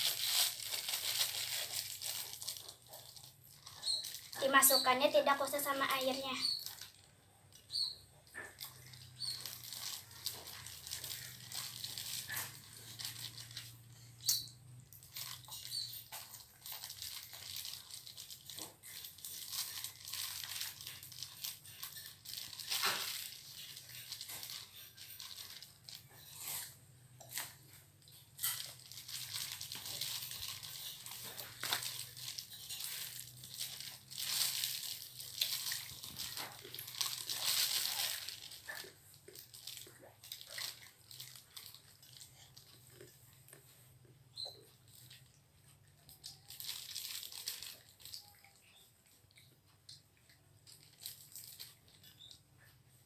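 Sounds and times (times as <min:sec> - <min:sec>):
plastic bag crinkling: 0:00.0 - 0:45.3, 0:46.0 - 0:48.8, 0:50.6 - 0:52.3.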